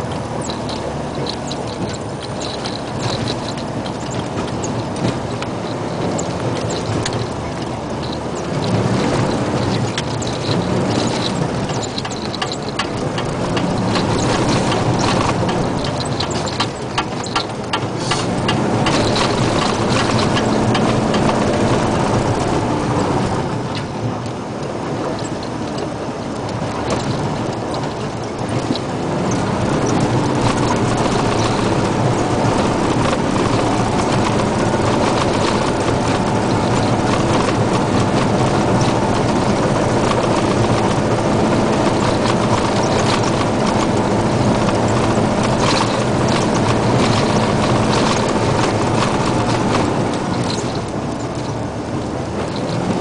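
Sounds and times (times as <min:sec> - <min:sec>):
diesel truck engine running: 0:00.0 - 0:53.0
sharp clicks and rattles: 0:00.0 - 0:53.0.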